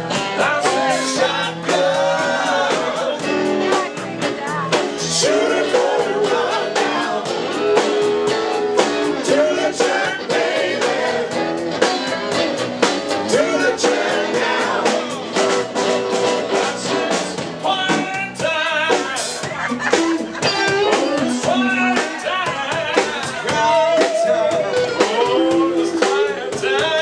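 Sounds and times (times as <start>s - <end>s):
drums: 0.0s - 27.0s
electric bass guitar: 0.0s - 27.0s
man singing: 0.1s - 8.5s, 9.1s - 11.2s, 13.2s - 27.0s.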